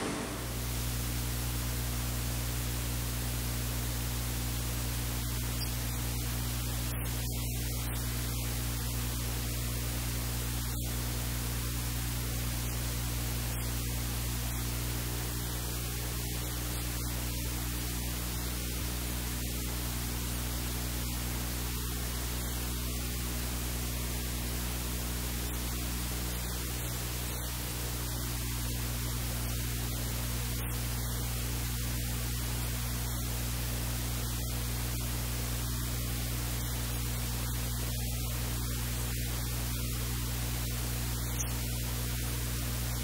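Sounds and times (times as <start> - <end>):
low electrical hum: 0.0 - 43.0
steady hiss: 0.0 - 43.0.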